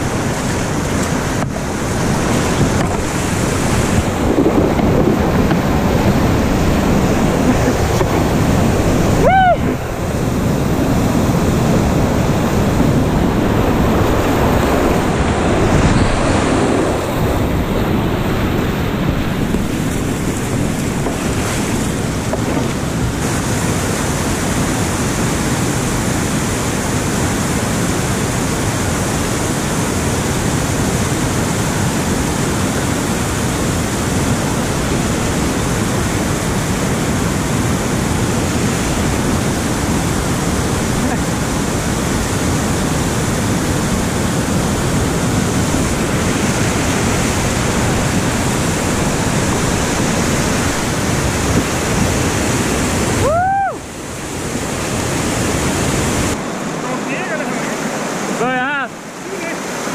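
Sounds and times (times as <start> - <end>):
rapids and waterfall rushing: 0.0 - 59.9.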